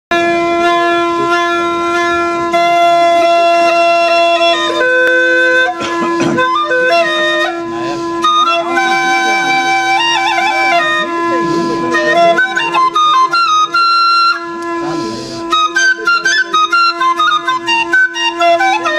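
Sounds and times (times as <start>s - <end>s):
double flute drone: 0.1s - 18.9s
flute melody: 0.1s - 18.9s.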